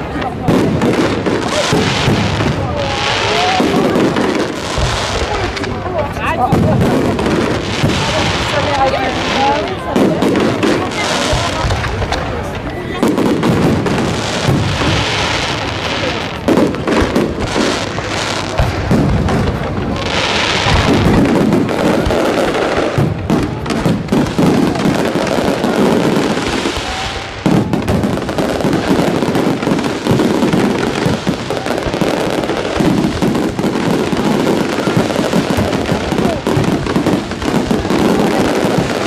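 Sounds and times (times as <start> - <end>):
fireworks bursting: 0.0 - 39.0
fireworks crackling and hissing: 0.0 - 39.0.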